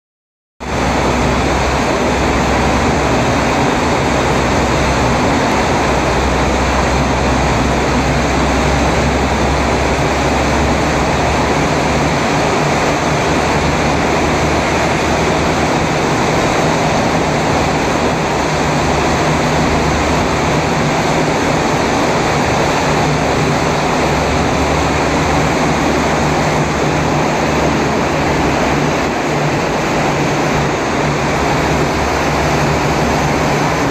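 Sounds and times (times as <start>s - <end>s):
air and traffic noise echoing: 0.6s - 33.9s
low engine hum: 0.6s - 33.9s.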